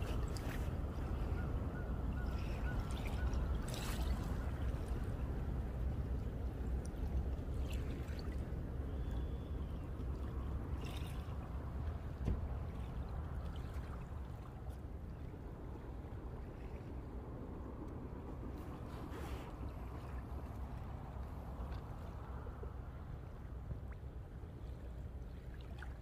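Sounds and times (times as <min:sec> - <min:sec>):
small waves lapping: 0:00.0 - 0:26.0
steady low rumble: 0:04.4 - 0:25.7.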